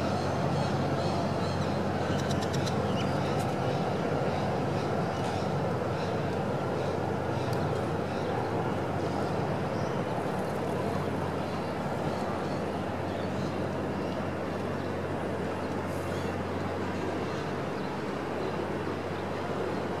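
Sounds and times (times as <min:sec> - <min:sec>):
city traffic hum: 0:00.0 - 0:20.0.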